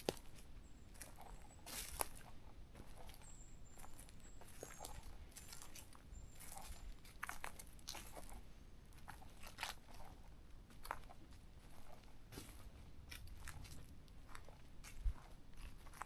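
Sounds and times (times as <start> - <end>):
footsteps crunching on trail: 0.0 - 16.0.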